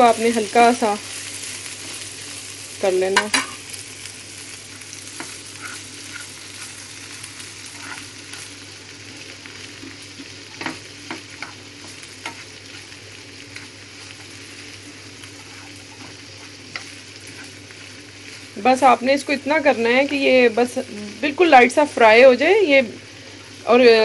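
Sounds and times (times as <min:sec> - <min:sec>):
pepper sizzling in frying pan: 0:00.0 - 0:24.0.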